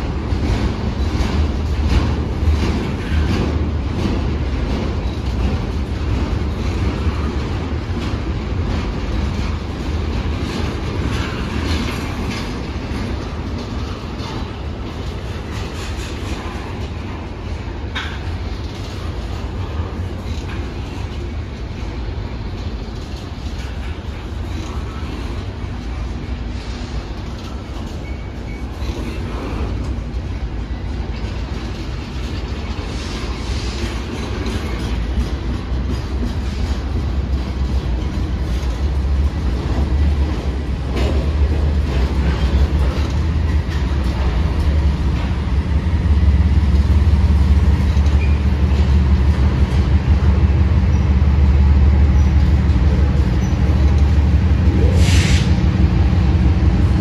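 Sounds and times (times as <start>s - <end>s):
freight train rumbling on rails: 0.0s - 57.0s
train cars clanking: 0.0s - 57.0s.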